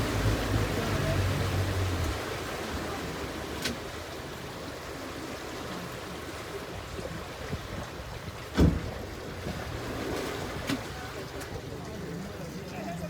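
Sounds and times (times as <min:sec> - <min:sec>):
river water: 0:00.0 - 0:13.0.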